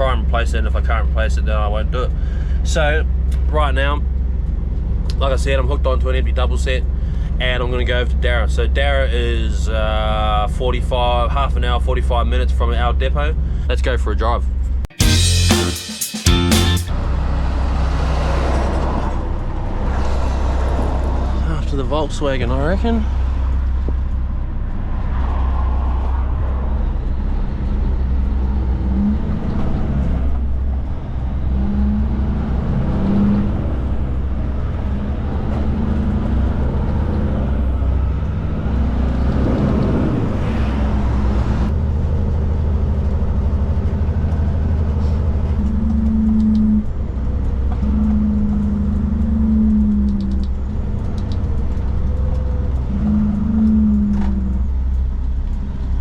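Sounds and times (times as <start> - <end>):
truck diesel engine driving: 0.0 - 56.0.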